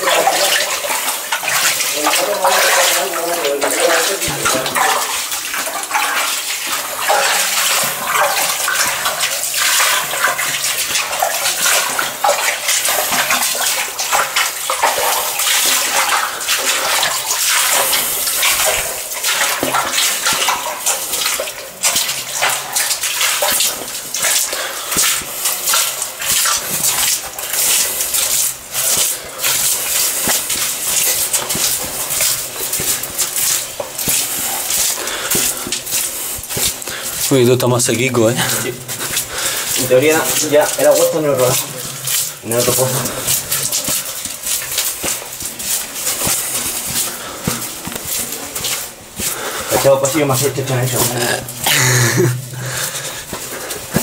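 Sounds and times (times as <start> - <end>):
boots splashing through water: 0.0 - 54.0.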